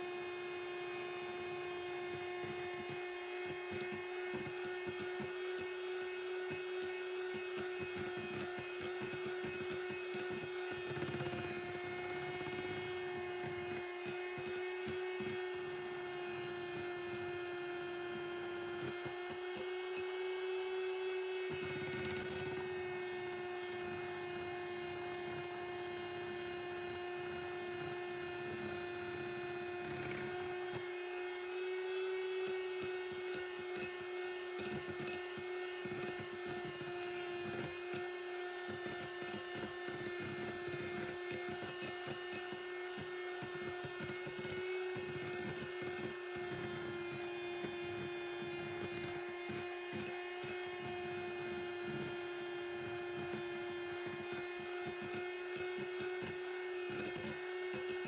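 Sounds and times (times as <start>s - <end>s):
electric mixer whine: 0.0s - 58.0s.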